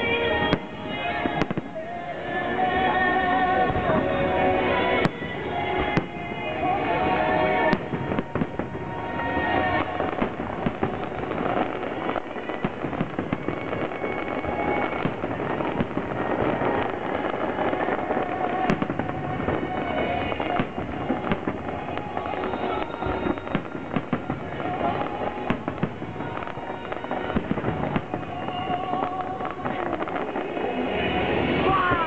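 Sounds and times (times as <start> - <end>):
sharp firework bangs: 0.0 - 1.9, 3.7 - 32.0
fireworks crackling and popping: 0.0 - 32.0
music playing: 0.0 - 32.0.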